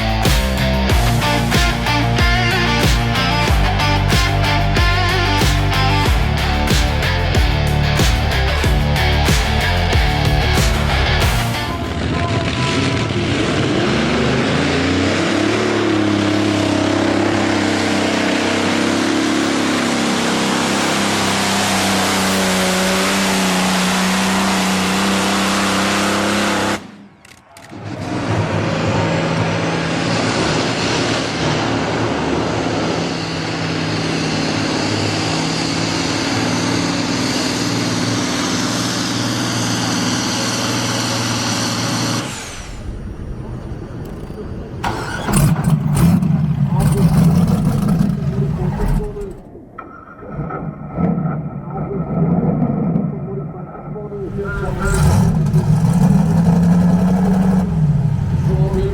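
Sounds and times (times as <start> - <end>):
tractor engine at high revs: 0.0 - 49.6, 54.2 - 58.9.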